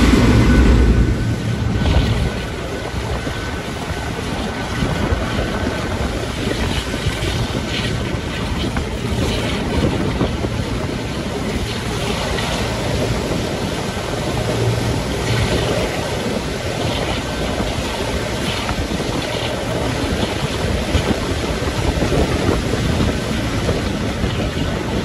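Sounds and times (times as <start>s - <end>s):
diesel locomotive engines working: 0.0s - 25.0s
train rumbling along track: 0.0s - 25.0s
wind buffeting on microphone: 0.0s - 25.0s.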